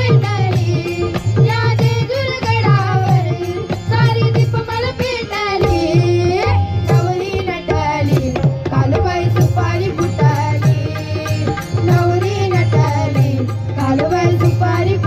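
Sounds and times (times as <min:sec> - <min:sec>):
tabla beat: 0:00.0 - 0:15.0.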